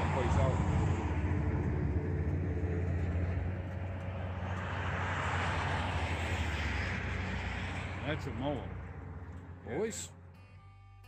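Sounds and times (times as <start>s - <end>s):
wind and road noise: 0.0s - 10.6s.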